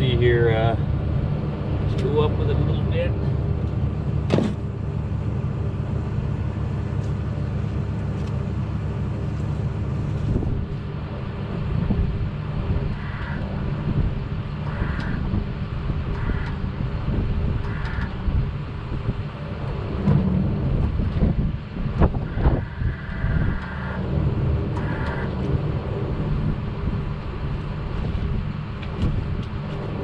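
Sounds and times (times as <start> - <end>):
backhoe engine running: 0.0 - 30.0
hydraulics working: 0.0 - 30.0.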